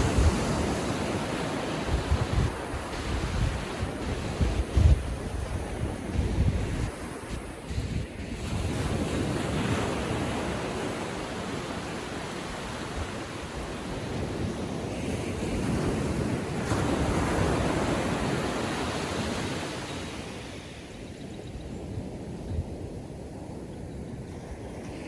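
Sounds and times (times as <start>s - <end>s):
ocean surf washing onto beach: 0.0s - 21.1s.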